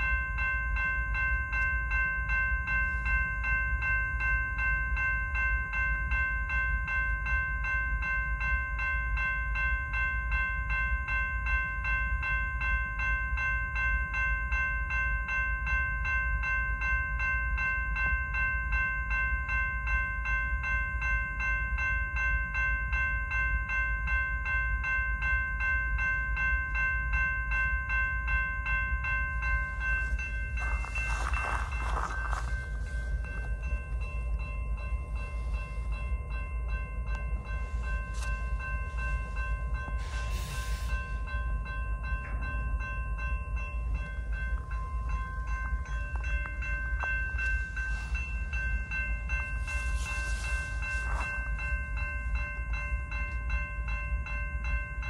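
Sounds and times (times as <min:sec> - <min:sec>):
crossing warning bell ringing: 0:00.0 - 0:55.0
train rumble: 0:00.0 - 0:55.0.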